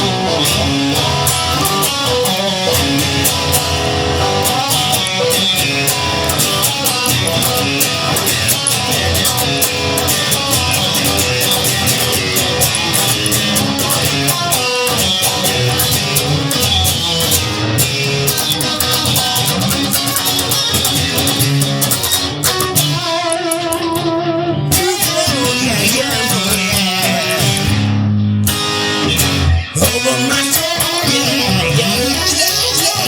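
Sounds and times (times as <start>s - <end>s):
instrumental rock guitar music: 0.0s - 33.0s.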